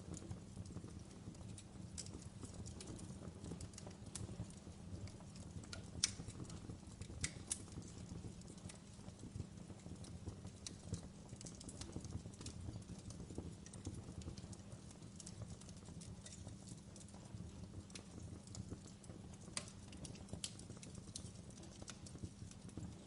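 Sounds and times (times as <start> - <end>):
logs crackling in fireplace: 0.0 - 23.0.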